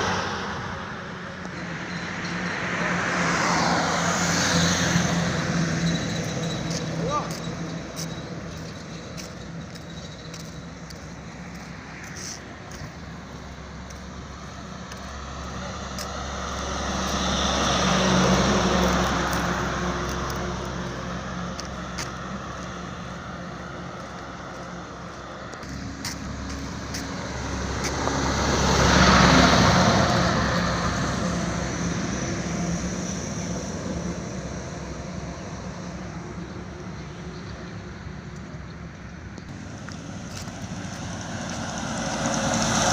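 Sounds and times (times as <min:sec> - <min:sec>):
vehicles passing by: 0:00.0 - 0:42.9.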